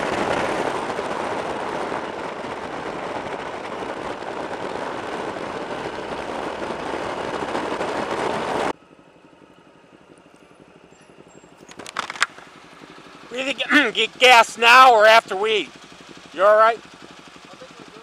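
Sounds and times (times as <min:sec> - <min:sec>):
motorcycle engine: 0:00.0 - 0:18.0
motorcycle wind and road noise: 0:00.0 - 0:18.0.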